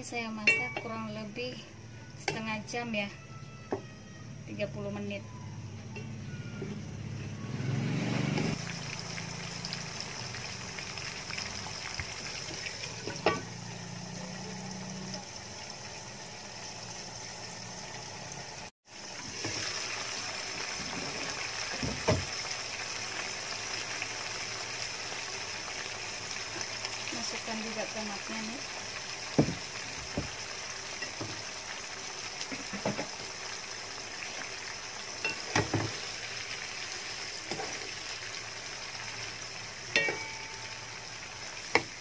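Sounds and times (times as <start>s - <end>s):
chicken sizzling in a wok: 5.9s - 42.0s.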